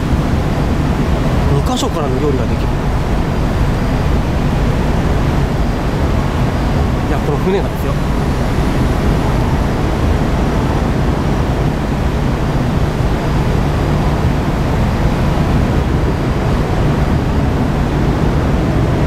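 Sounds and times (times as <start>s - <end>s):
sea noise: 0.0s - 19.0s
ship engines low rumble: 0.0s - 19.0s
wind: 0.0s - 19.0s.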